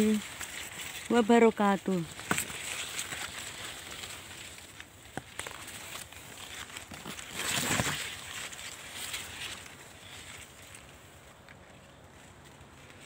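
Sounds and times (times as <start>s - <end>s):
corn leaves rustling: 0.0s - 13.0s.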